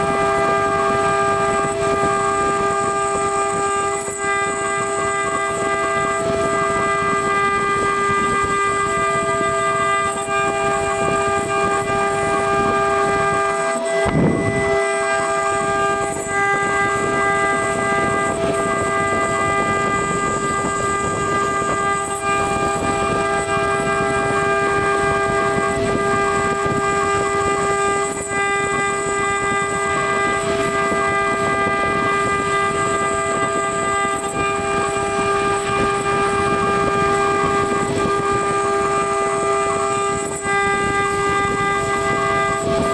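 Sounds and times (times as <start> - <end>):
engraving router spindle whine: 0.0 - 42.9.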